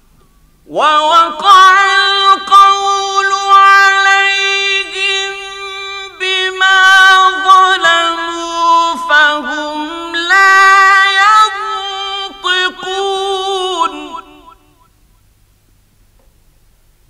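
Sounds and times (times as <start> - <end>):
man reciting melodically: 0.6 - 14.9.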